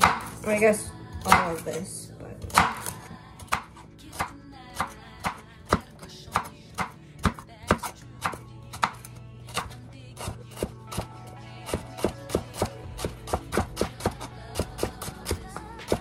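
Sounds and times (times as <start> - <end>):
knife chopping on wooden board: 0.0 - 0.4, 1.2 - 1.7, 2.5 - 11.1, 11.7 - 16.0
soft background music: 0.0 - 16.0.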